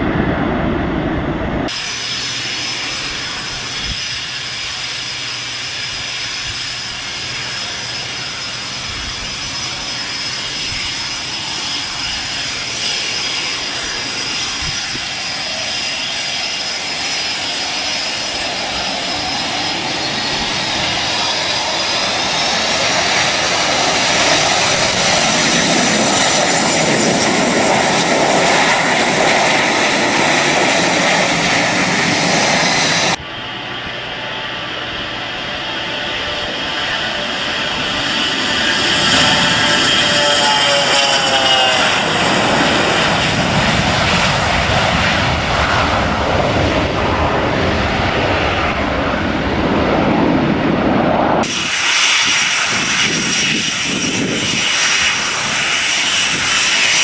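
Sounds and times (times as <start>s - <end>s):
jet engines whining and roaring: 0.0s - 57.0s.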